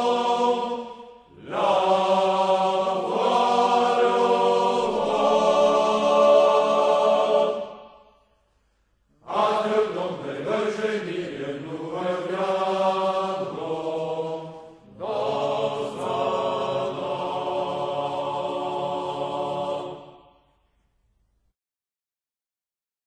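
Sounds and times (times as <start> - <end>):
men singing in chorus: 0.0 - 7.8, 9.2 - 20.2.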